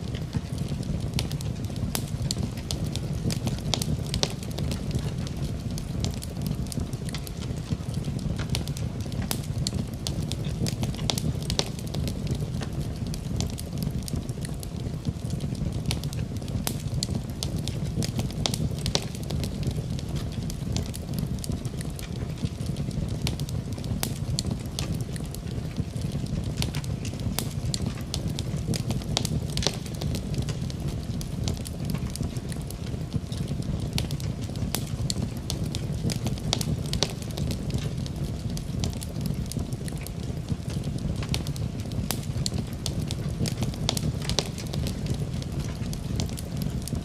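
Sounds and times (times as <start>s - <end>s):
wood fire burning: 0.0s - 47.0s.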